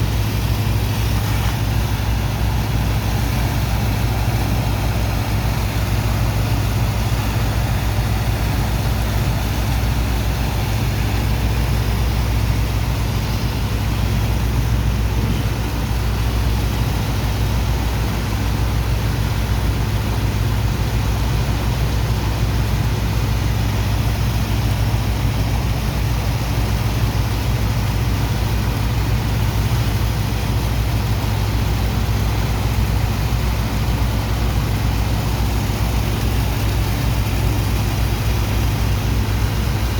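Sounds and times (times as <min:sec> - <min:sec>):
diesel engine pump running: 0:00.0 - 0:39.9
rushing wash: 0:00.0 - 0:39.9.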